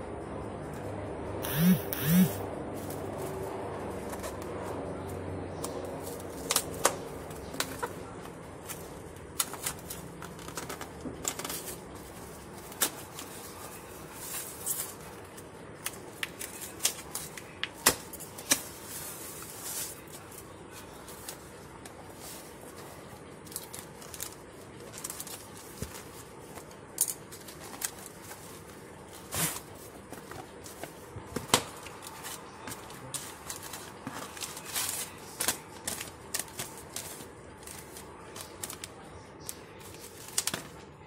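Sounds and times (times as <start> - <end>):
cardboard and paper rustling: 2.7 - 41.0.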